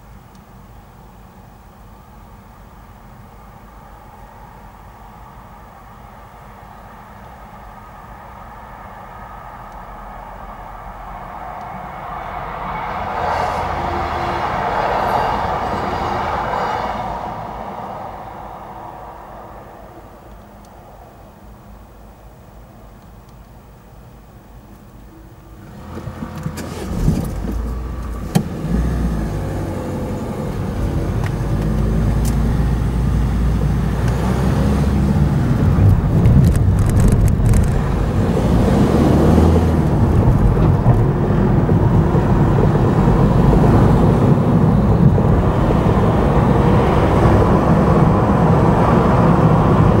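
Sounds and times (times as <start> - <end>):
car engine and tyre noise: 0.0 - 50.0.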